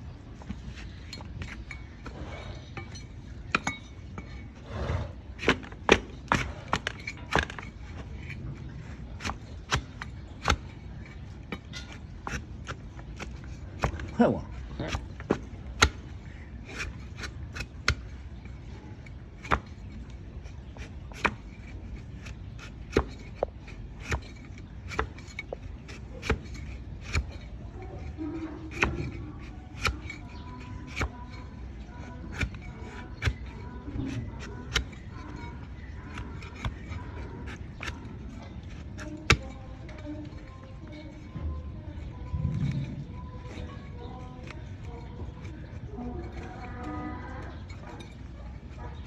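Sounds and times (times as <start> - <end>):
blade cutting hoof horn: 0.4 - 49.0.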